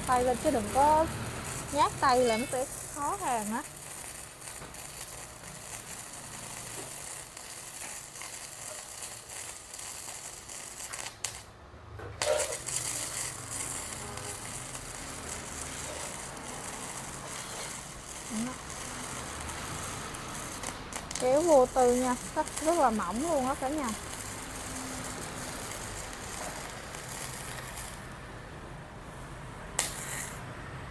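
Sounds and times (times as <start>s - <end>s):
welding arc crackling: 0.0s - 11.6s, 12.2s - 30.9s.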